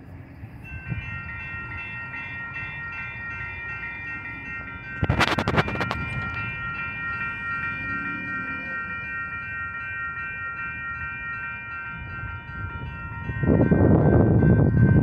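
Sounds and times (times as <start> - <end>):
railroad crossing bells ringing: 0.0 - 15.0.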